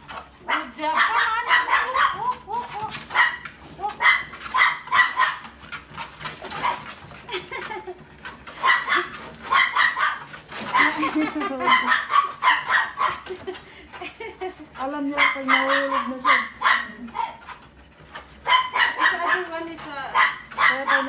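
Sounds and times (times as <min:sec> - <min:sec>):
dogs barking: 0:00.1 - 0:13.5, 0:15.0 - 0:21.0.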